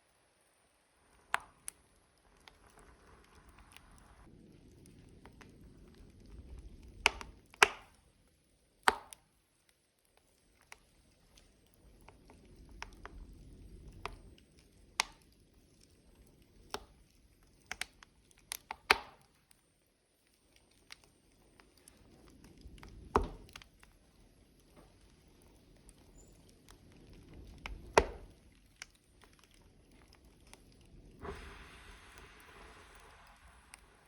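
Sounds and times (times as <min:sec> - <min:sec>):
fire crackling and popping: 0:00.0 - 0:34.0
low rush of flame: 0:00.4 - 0:08.3, 0:10.4 - 0:18.5, 0:20.2 - 0:34.0.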